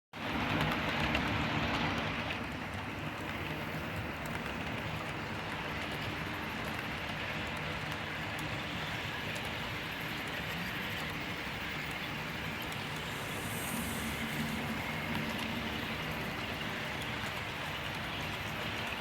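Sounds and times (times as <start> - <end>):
model train rolling on track: 0.2 - 19.0.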